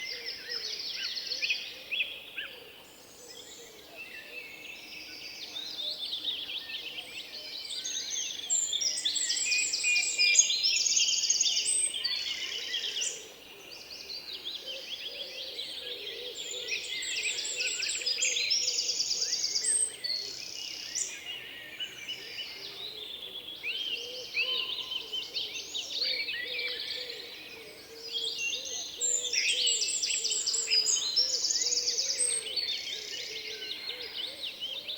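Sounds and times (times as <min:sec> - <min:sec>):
small birds chirping chorus: 0:00.0 - 0:34.9.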